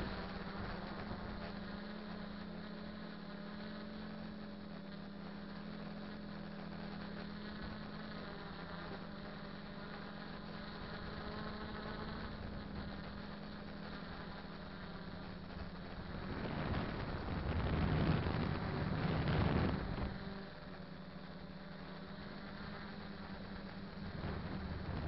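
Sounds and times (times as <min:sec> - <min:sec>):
quadcopter motors humming: 0:00.0 - 0:25.0.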